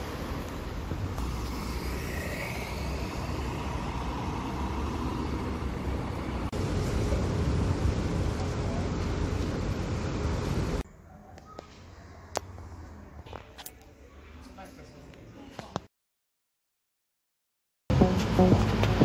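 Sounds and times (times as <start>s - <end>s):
city street traffic rumble: 0.0s - 15.9s, 17.9s - 19.0s.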